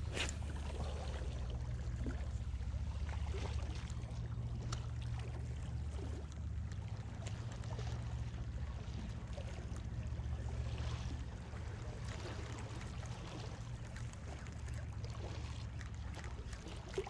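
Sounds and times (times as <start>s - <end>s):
water lapping among rocks: 0.0s - 17.0s.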